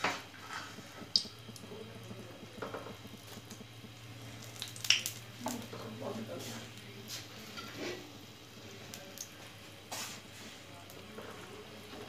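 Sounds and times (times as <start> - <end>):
faint bubbling: 0.0 - 12.0.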